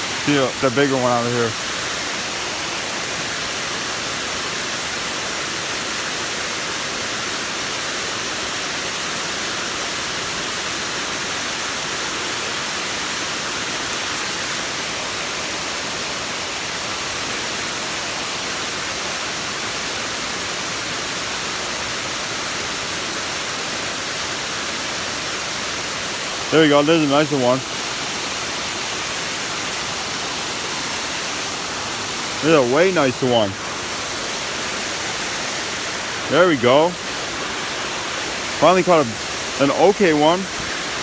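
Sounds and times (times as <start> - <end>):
creek water running over rocks: 0.0 - 41.0.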